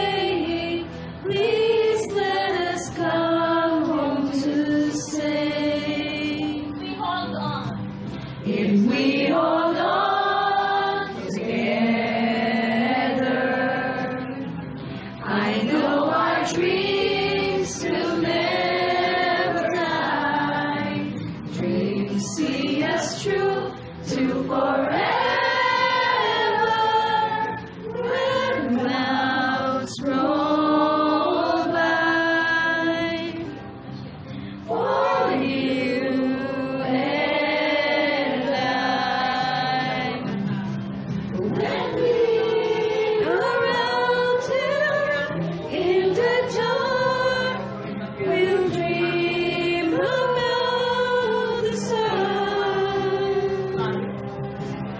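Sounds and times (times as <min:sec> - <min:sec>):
group singing a hymn: 0:00.0 - 0:06.8, 0:08.4 - 0:33.6, 0:34.6 - 0:54.2
woman singing into microphone: 0:00.0 - 0:07.3, 0:08.4 - 0:14.6, 0:15.2 - 0:33.6, 0:34.6 - 0:40.6, 0:41.4 - 0:54.1.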